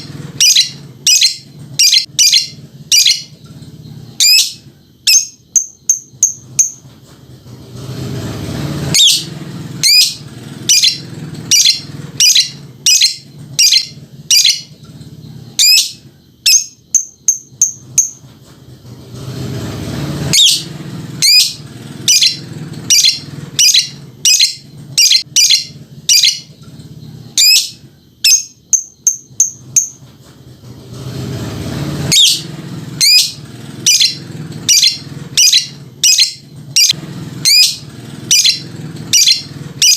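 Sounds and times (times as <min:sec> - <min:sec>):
bird chirping: 0:00.0 - 0:06.9, 0:08.8 - 0:18.2, 0:20.3 - 0:30.1, 0:32.1 - 0:39.9.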